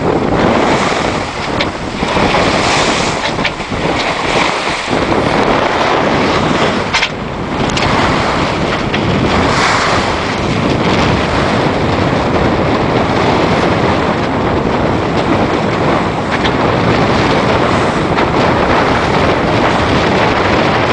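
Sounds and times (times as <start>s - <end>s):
waves rushing along hull: 0.0s - 20.9s
wind buffeting microphone: 0.0s - 20.9s.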